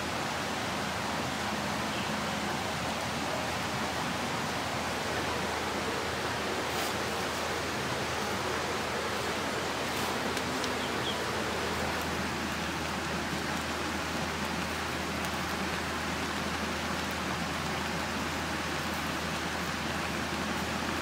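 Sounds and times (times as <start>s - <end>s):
broth boiling in a pan: 0.0s - 21.0s.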